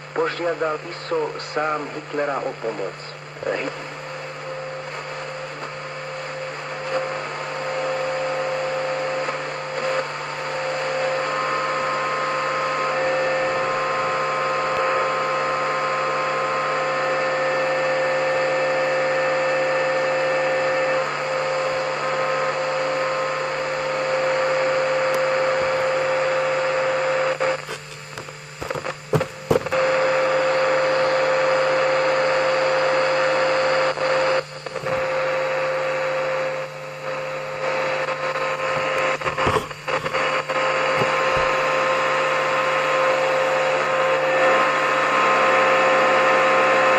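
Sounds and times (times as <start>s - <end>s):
radio static hiss: 0.0s - 46.9s
steady hum tone: 0.0s - 46.9s.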